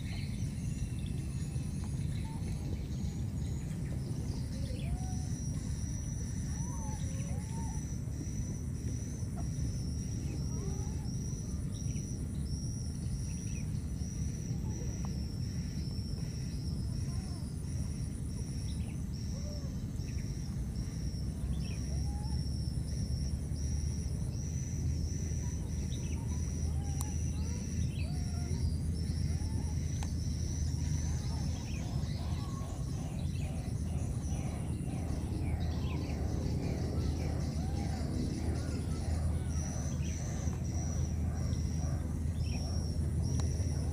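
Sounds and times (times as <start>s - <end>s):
high insect trill: 0.0s - 43.9s
insects chirping: 0.0s - 43.9s.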